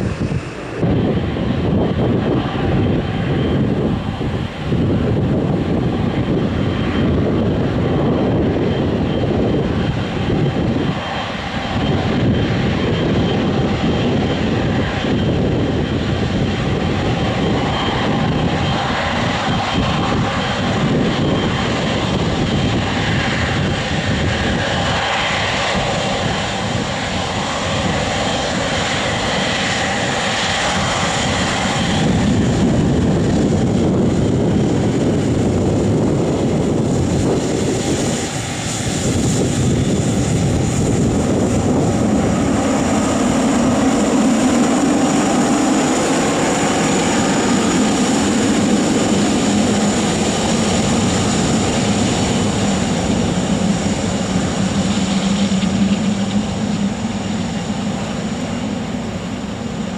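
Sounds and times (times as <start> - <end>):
airliner engines roaring: 0.0 - 59.9.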